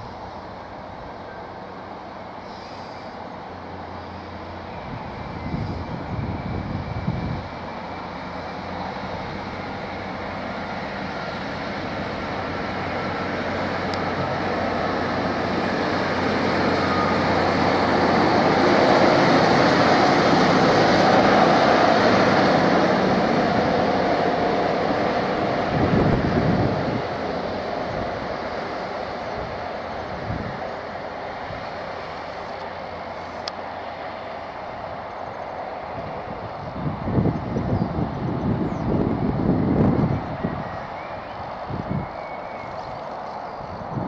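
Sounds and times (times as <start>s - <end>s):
diesel trains passing: 0.0s - 44.0s.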